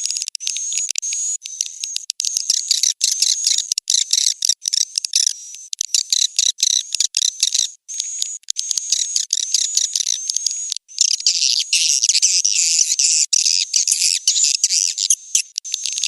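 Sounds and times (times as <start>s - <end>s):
high-pitched twittering chirps: 0.0s - 16.0s.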